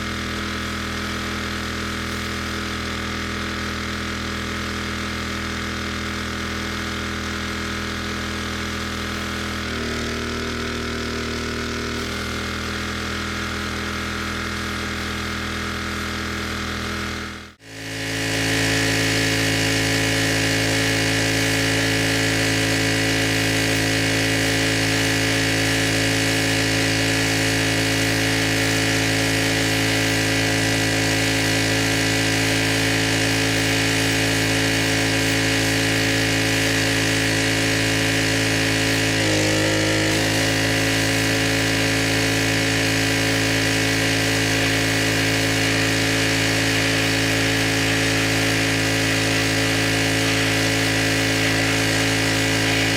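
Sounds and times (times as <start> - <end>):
pressure washer running: 0.0 - 52.9.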